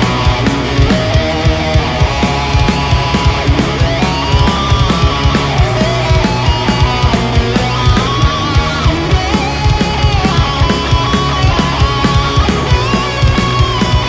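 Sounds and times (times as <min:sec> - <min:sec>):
heavy rock music: 0:00.0 - 0:14.0.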